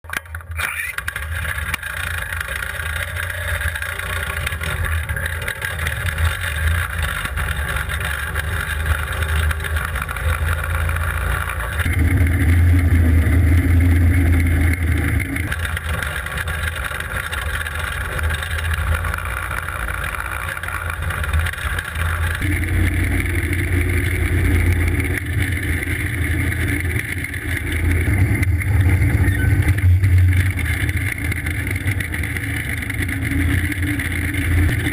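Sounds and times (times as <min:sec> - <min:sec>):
go-kart engine running: 0:00.0 - 0:34.9.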